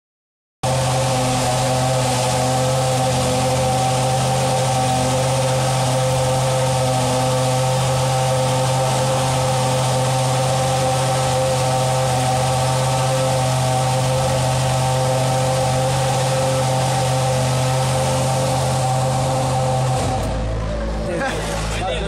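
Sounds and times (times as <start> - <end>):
steady mechanical drone: 0.6 - 22.0.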